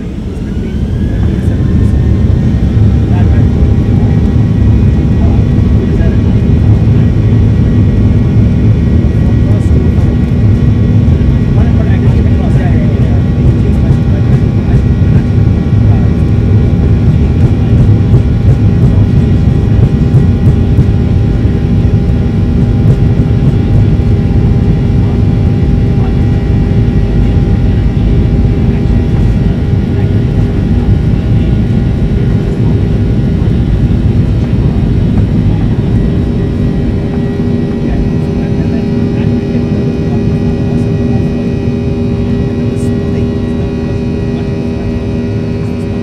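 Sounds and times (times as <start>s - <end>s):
jet engine drone: 0.0s - 46.0s.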